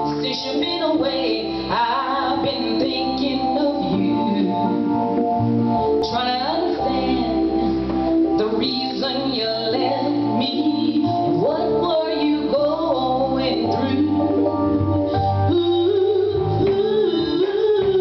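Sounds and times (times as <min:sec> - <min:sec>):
woman singing into a microphone: 0:00.0 - 0:05.1, 0:06.0 - 0:18.0
guitar: 0:00.0 - 0:18.0
live band playing: 0:00.0 - 0:18.0.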